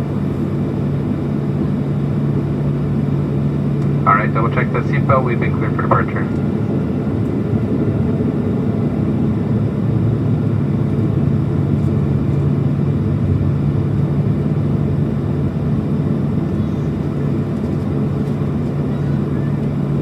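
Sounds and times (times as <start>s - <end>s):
jet engine cabin rumble: 0.0s - 20.0s.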